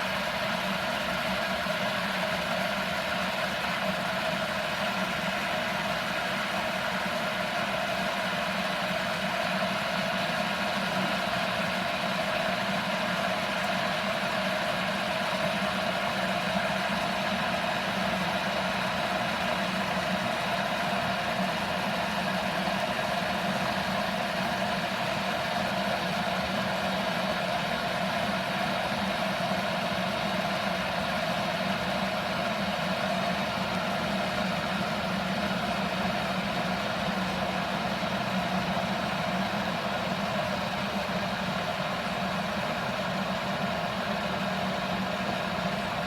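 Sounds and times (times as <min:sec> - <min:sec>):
electric kettle heating water: 0:00.0 - 0:46.0.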